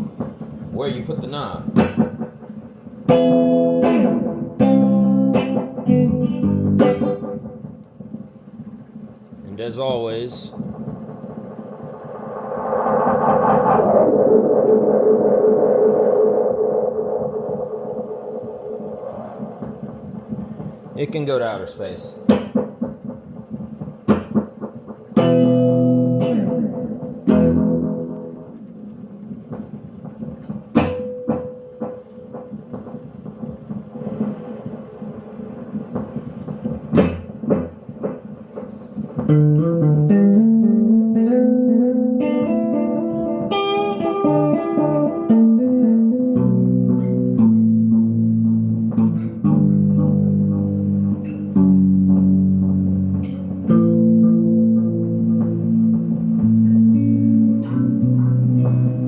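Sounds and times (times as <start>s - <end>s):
electric guitar with tape echo: 0.0s - 59.0s.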